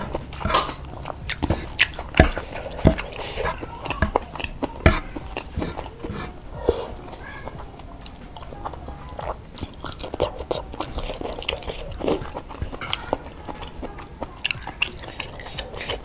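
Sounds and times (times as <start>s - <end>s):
mouth clicks and smacks: 0.0s - 16.0s
wet chewing noodles: 0.0s - 16.0s.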